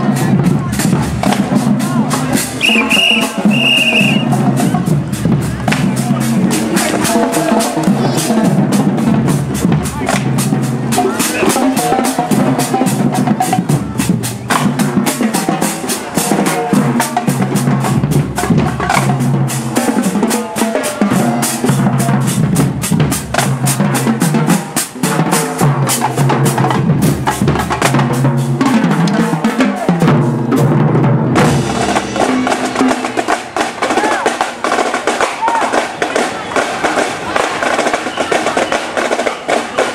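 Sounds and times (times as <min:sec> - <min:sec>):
snare and bass drum beat: 0:00.0 - 0:39.9.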